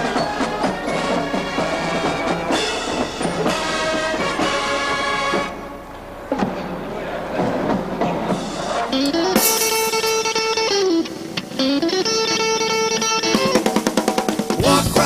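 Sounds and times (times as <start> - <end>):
electric guitar blues: 0.0 - 15.0.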